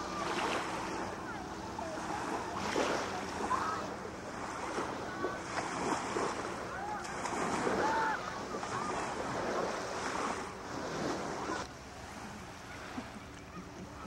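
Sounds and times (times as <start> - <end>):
faint distant voices: 0.0 - 14.0.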